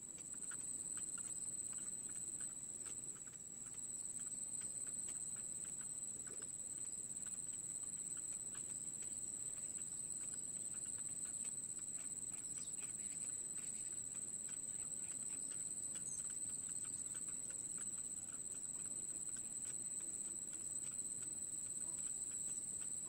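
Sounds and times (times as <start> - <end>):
soft ticks and rustles in nest: 0.0 - 23.0.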